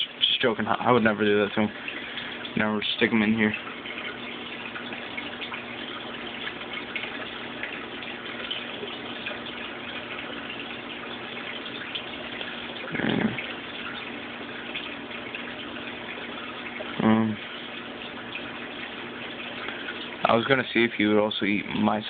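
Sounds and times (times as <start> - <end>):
low electrical hum: 0.0 - 22.0
water trickling and splashing: 0.0 - 22.0.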